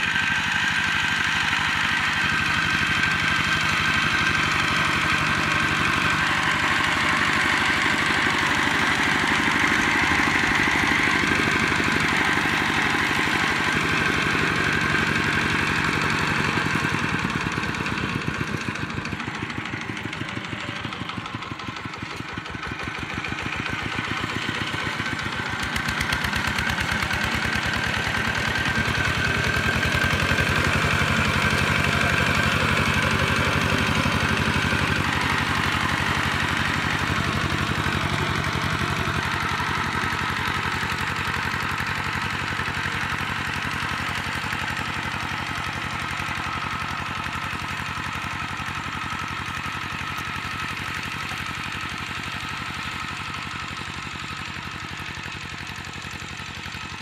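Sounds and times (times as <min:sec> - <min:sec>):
walking tractor diesel engine: 0:00.0 - 0:57.0.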